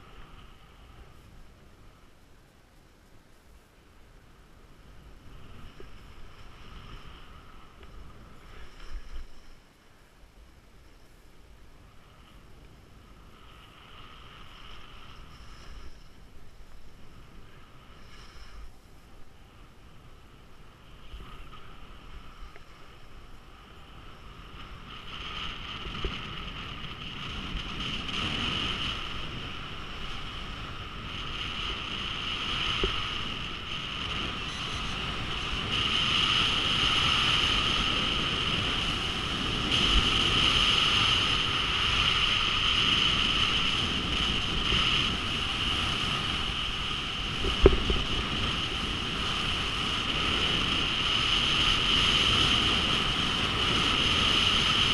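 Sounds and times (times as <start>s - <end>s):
wind rushing over camera: 0.0s - 54.9s
skis scraping over snow: 4.7s - 10.0s, 10.8s - 54.9s.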